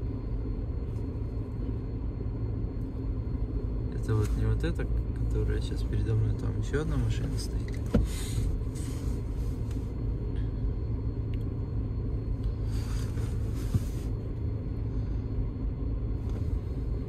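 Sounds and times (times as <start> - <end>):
car idling inside cabin: 0.0 - 17.0.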